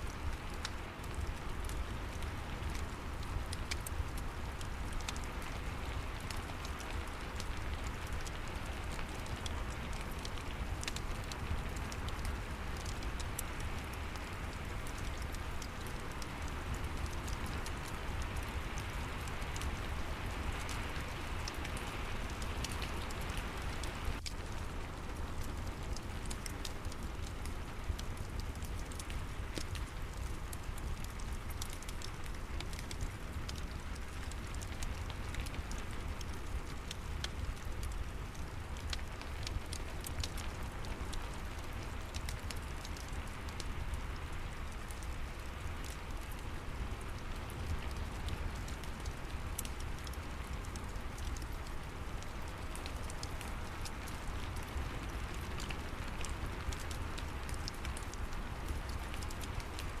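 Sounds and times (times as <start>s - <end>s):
steady rain: 0.0s - 60.0s
wood fire crackling: 0.0s - 60.0s.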